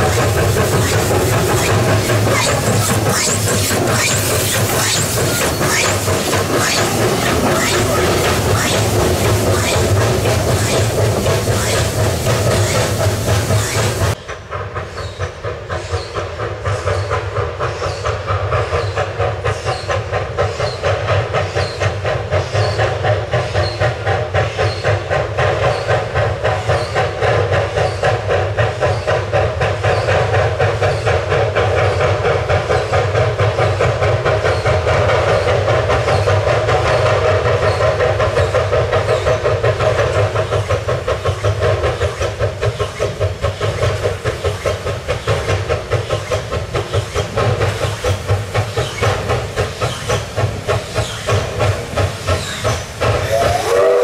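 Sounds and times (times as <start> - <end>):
steam hiss: 0.0 - 54.0
steam locomotive exhaust beats: 0.0 - 54.0.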